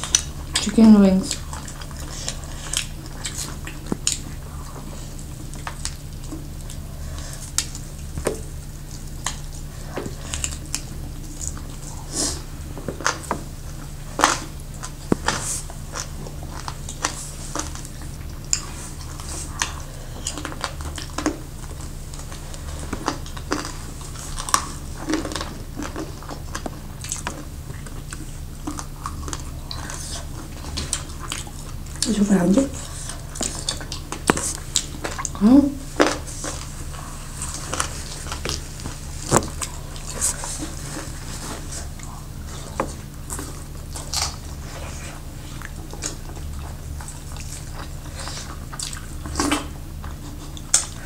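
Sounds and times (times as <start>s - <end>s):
chewing and biting chicken wings: 0.0s - 51.0s
steady low hum: 0.0s - 51.0s.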